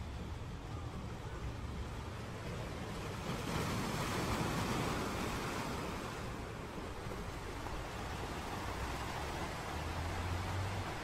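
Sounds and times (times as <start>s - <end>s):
harbour water: 0.0s - 11.0s.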